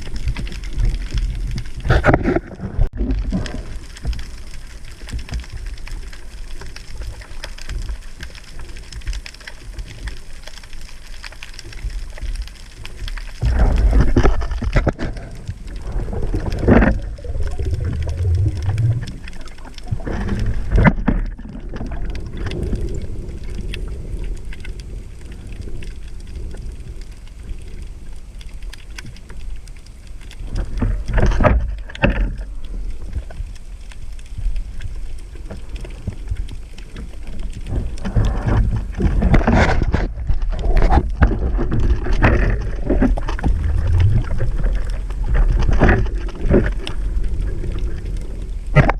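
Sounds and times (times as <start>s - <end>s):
water bubbling and splashing: 0.0s - 48.9s
water rumbling against camera: 0.0s - 48.9s.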